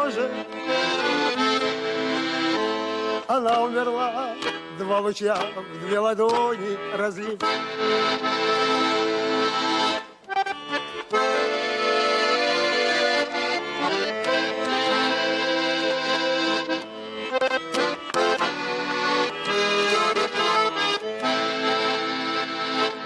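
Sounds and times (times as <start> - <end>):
button accordion playing: 0.0 - 23.0.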